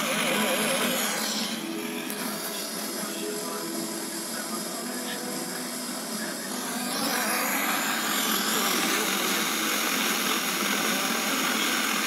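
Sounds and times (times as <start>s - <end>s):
faint distant radio station: 0.0s - 12.0s
radio static hiss: 0.0s - 12.0s.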